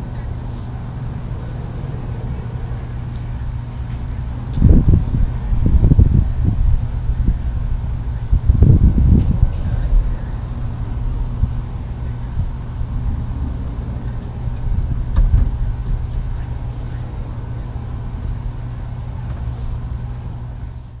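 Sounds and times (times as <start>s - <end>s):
motor rumbling: 0.0s - 21.0s.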